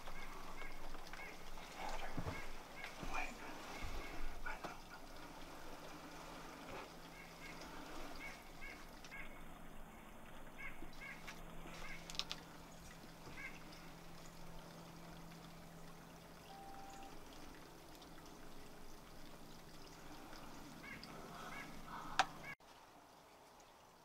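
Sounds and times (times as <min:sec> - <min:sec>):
distant bird calls: 0:00.0 - 0:22.6
low woodland hum: 0:00.0 - 0:24.0.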